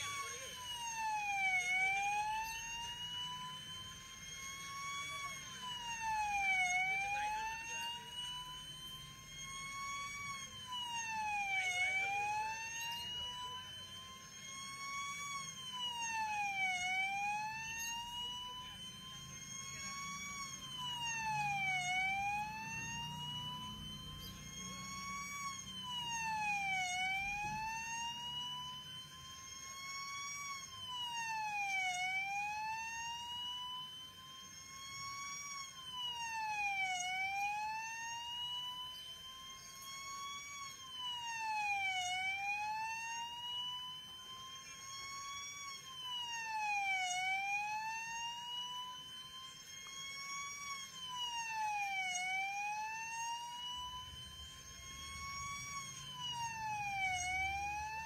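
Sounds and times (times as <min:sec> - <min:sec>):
siren wailing: 0:00.0 - 0:58.0.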